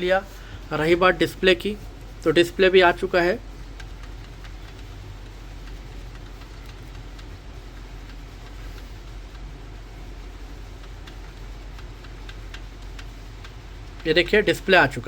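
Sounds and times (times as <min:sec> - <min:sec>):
background hiss: 0:00.0 - 0:15.0
low hum: 0:00.0 - 0:15.0.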